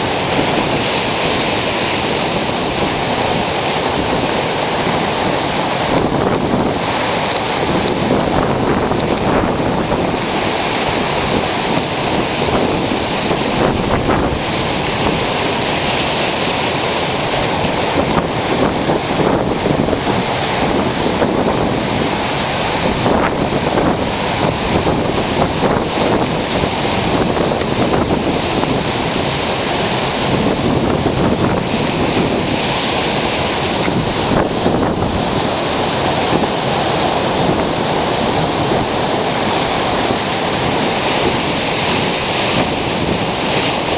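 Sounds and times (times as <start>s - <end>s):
ocean surf breaking: 0.0s - 43.9s.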